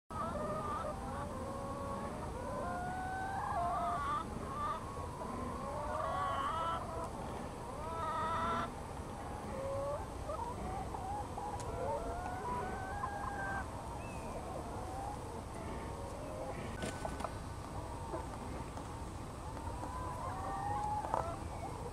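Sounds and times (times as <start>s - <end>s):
hens clucking and calling: 0.1s - 21.9s.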